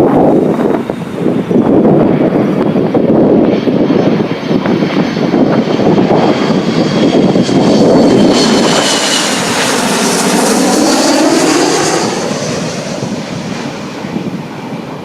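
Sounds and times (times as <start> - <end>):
jet engine whine: 0.0 - 15.0
wind buffeting microphone: 0.0 - 15.0.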